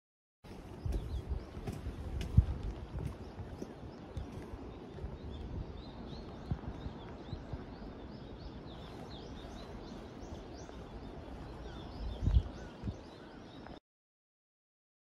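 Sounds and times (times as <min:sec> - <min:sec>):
wind rumble on microphone: 0:00.5 - 0:13.8.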